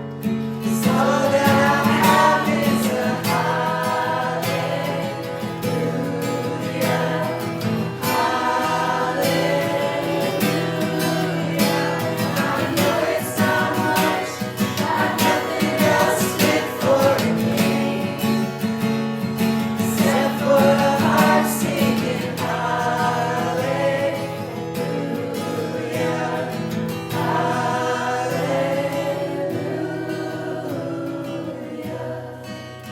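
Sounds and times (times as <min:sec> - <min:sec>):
guitar accompaniment: 0:00.0 - 0:32.9
group singing worship song: 0:00.6 - 0:32.9.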